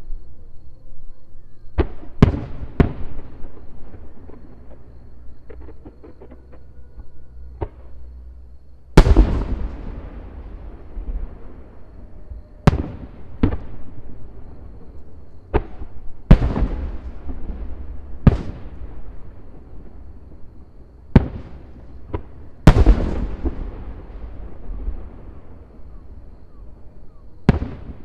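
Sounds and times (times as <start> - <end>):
fireworks booming: 1.8 - 6.7, 8.9 - 26.8, 27.4 - 28.0.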